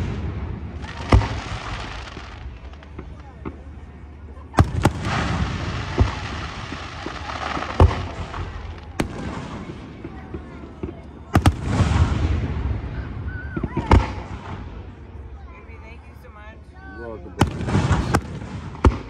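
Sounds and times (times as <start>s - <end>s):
fireworks bangs: 0.0s - 3.9s, 4.5s - 15.1s, 17.4s - 19.0s
fireworks crackling and hissing: 0.0s - 15.1s, 17.4s - 19.0s.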